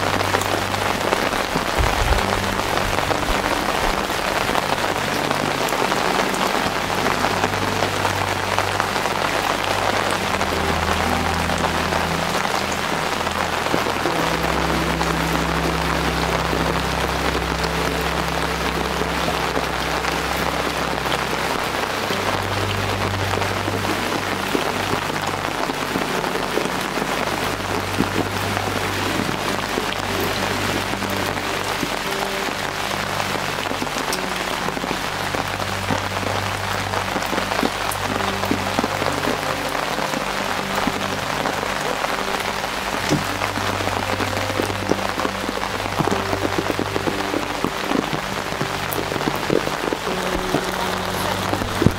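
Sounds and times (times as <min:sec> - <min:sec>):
soft background music: 0:00.0 - 0:51.9
steady rain falling: 0:00.0 - 0:51.9.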